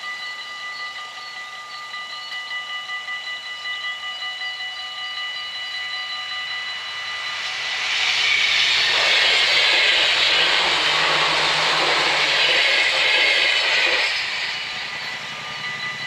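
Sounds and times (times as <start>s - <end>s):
electric train passing: 0.0s - 16.0s
level-crossing bells ringing: 0.0s - 16.0s.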